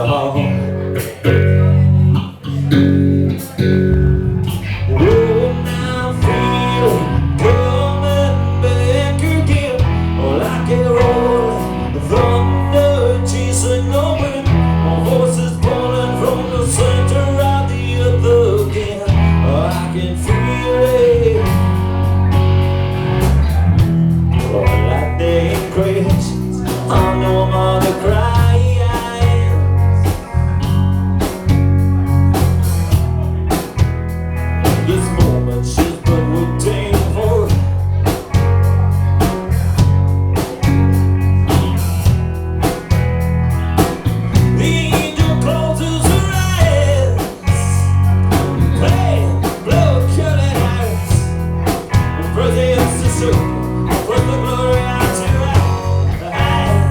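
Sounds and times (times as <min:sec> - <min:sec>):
live rock band playing: 0:00.0 - 0:56.9.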